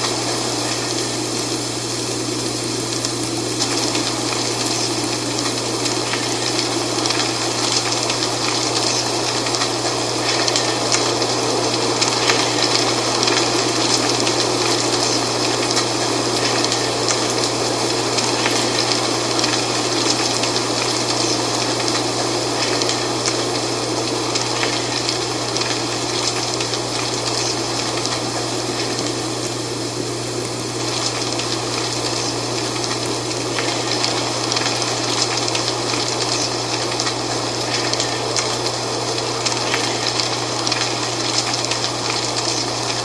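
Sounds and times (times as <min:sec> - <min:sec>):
wind rustling dry leaves: 0:00.0 - 0:43.0.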